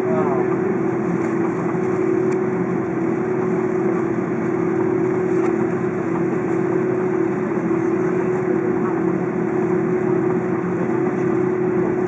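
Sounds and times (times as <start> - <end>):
jet engines humming in cabin: 0.0 - 12.0.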